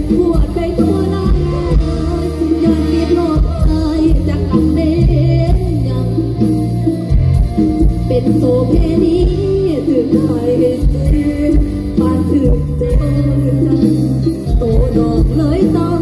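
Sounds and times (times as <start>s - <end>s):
held bass: 0.0s - 16.0s.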